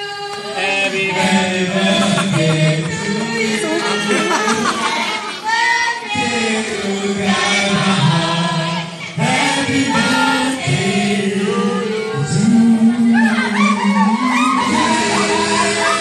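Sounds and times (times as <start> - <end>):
voices singing long held notes: 0.0 - 16.0.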